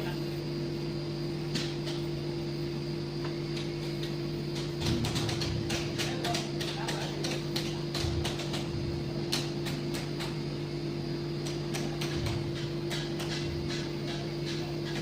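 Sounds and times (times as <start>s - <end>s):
brazing machine electrical hum: 0.0s - 15.0s.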